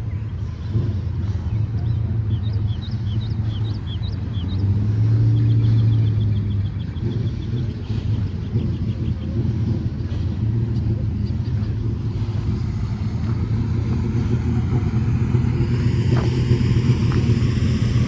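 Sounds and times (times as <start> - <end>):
car engine rumble: 0.0 - 18.0.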